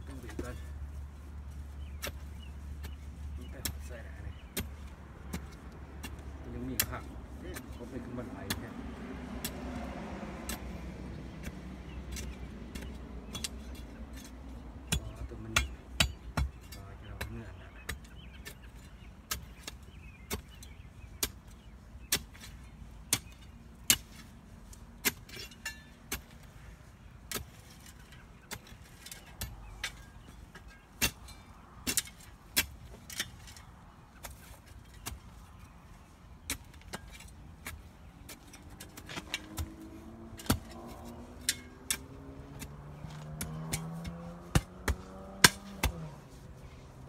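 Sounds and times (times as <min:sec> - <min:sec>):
digging tool striking soil: 0:01.5 - 0:10.8, 0:11.4 - 0:26.6, 0:27.2 - 0:46.4.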